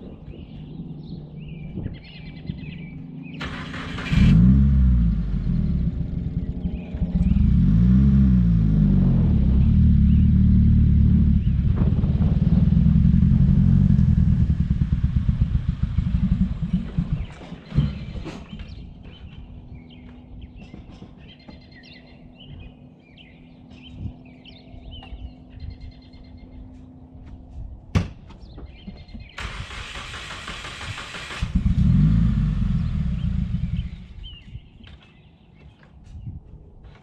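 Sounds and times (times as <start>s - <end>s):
birds chirping: 0.0s - 4.3s, 5.2s - 30.3s, 32.4s - 37.0s.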